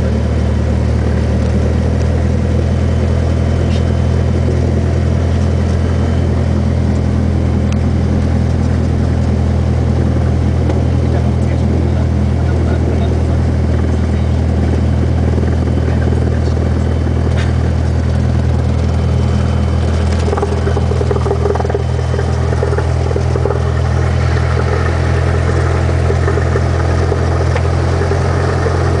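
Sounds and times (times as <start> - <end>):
plane engine and propeller: 0.0 - 29.0.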